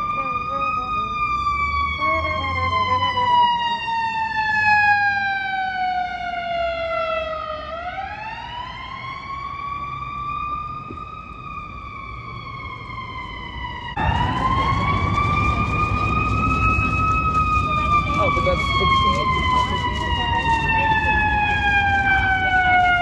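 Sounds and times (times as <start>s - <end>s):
siren wailing: 0.0s - 23.0s
street traffic: 0.0s - 23.0s.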